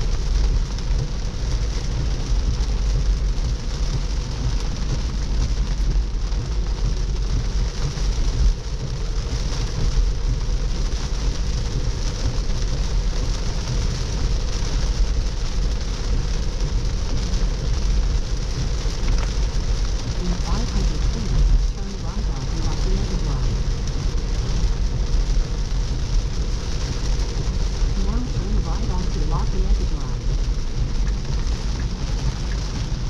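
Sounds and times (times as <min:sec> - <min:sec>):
rain and spray hiss: 0:00.0 - 0:33.0
tyres rumbling on wet road: 0:00.0 - 0:33.0.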